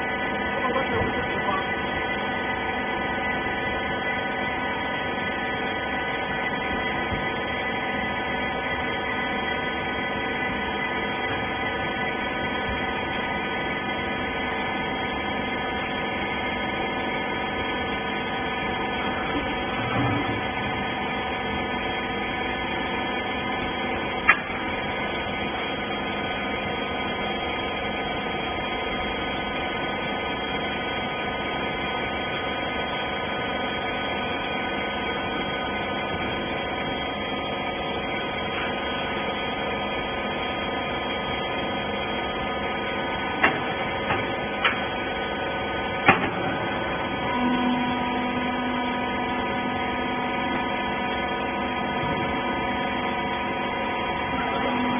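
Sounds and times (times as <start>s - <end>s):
baler machine humming: 0.0s - 54.9s.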